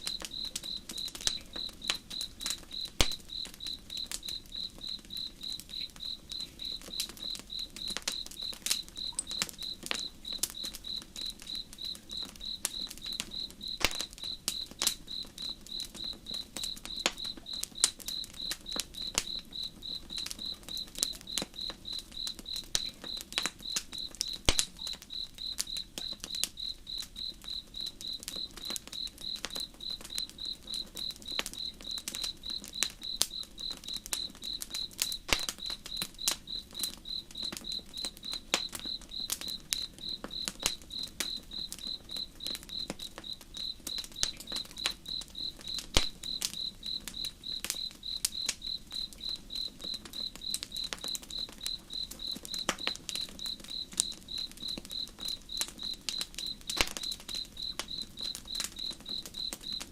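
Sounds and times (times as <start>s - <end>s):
campfire crackling and popping: 0.0s - 59.9s
cricket chirping: 0.0s - 59.9s.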